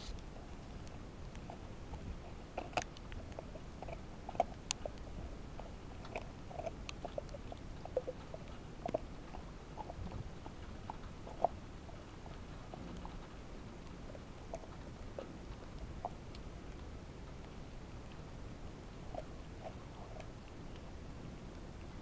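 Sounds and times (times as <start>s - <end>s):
dog chewing bone: 0.3s - 18.3s, 18.9s - 21.0s.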